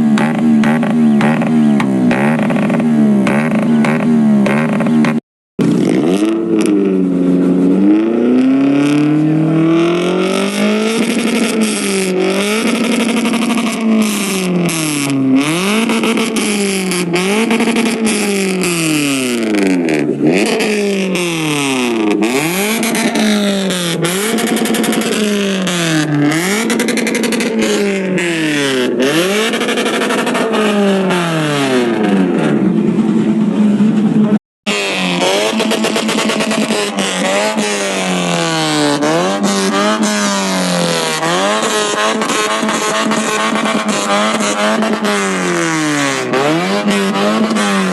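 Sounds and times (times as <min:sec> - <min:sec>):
vehicle engine revving hard: 0:00.0 - 0:33.9, 0:34.7 - 0:47.9.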